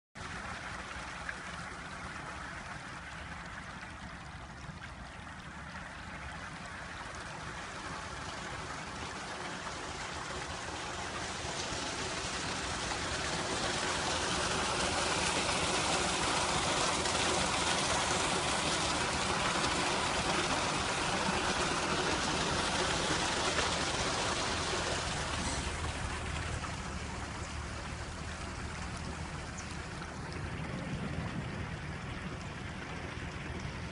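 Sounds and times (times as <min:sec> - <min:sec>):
water rushing from a pipe: 0:00.2 - 0:33.9.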